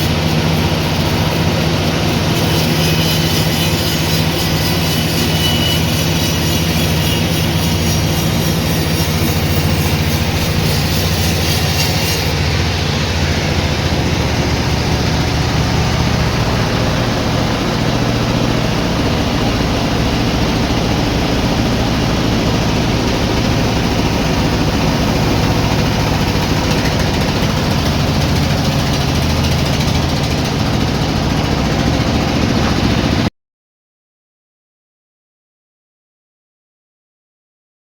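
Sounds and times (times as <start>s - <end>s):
sawmill machinery running: 0.0s - 33.3s.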